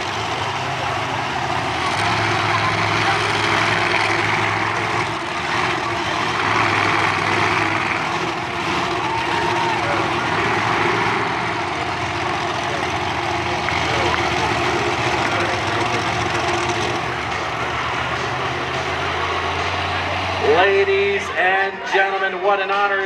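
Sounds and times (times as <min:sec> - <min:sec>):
heavy engine idling: 0:00.0 - 0:23.0.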